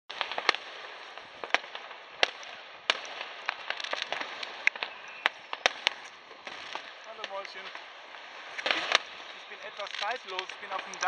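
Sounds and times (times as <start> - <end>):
fireworks bangs and cracks: 0.1 - 11.0.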